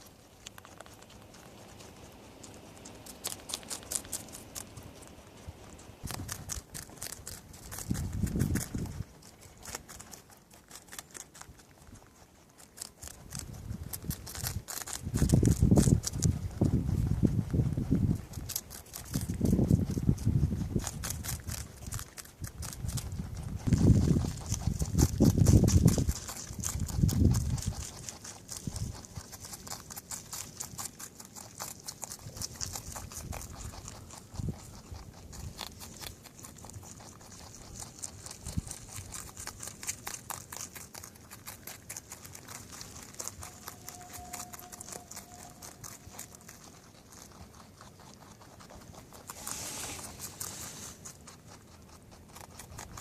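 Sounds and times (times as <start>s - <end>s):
rabbits chewing cabbage: 0.0s - 53.0s.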